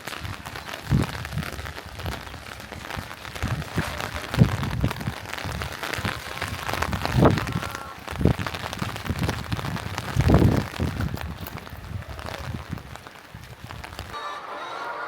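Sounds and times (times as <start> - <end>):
rain pattering: 0.0 - 14.2.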